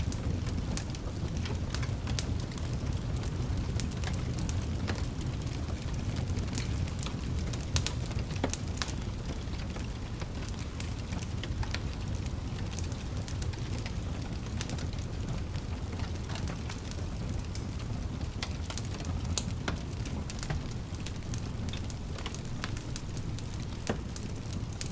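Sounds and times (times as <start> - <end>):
flames rumbling in fireplace: 0.0 - 24.9
wood fire crackling and popping: 0.0 - 24.9.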